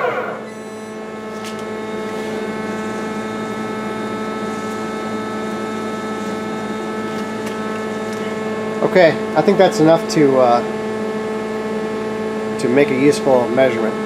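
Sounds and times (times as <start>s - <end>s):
lathe idling hum: 0.0s - 14.0s.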